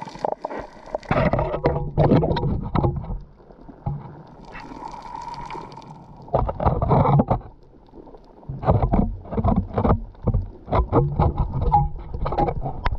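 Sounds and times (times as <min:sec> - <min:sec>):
water sloshing and bubbling: 0:00.0 - 0:12.9.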